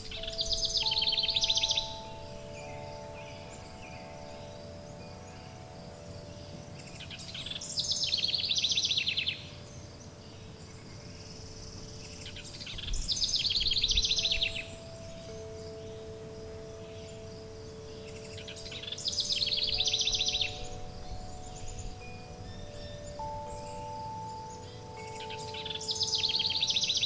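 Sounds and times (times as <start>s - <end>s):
soft steady hiss: 0.0s - 27.0s
songbird trilling: 0.0s - 27.0s
wind chimes ringing: 0.0s - 27.0s.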